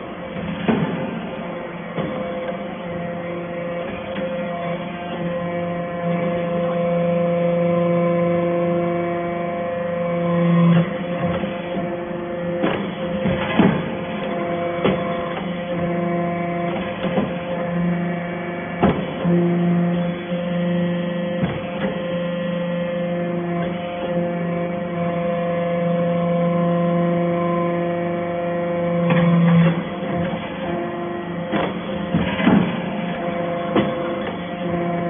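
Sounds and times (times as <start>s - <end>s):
hydraulic pump motor humming: 0.0s - 35.0s.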